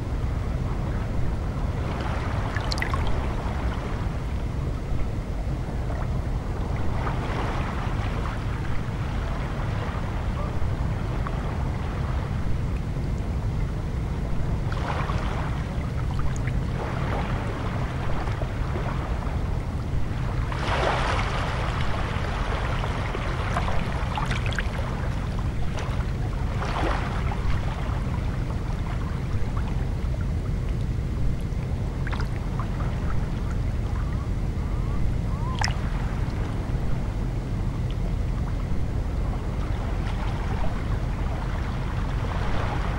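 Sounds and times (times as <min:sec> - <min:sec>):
low rumble: 0:00.0 - 0:42.9.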